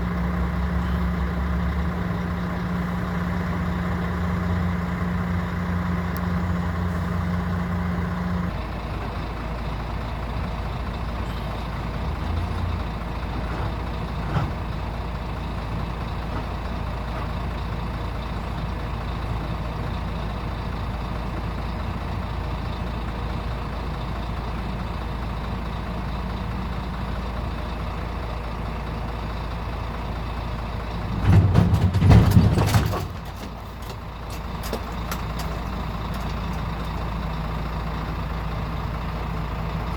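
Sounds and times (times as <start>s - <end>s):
heavy truck engine running: 0.0s - 39.9s.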